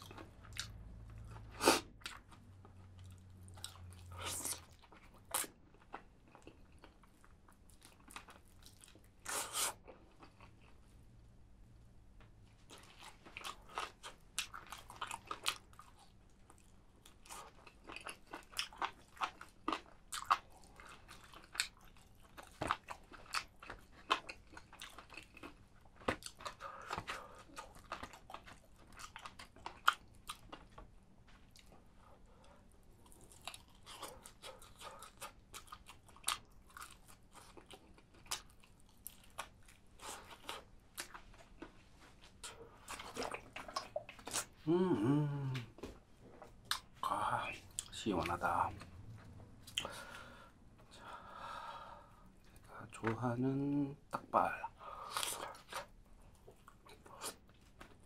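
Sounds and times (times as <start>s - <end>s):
person chewing crunchy food: 0.0s - 11.0s, 12.6s - 52.7s, 55.0s - 58.0s.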